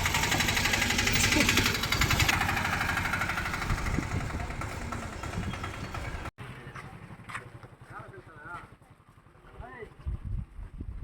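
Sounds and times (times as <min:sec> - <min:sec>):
engine running: 0:00.0 - 0:10.7.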